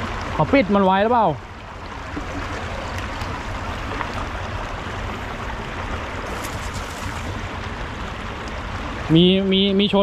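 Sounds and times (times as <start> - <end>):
water rushing from pipe: 0.0 - 9.5.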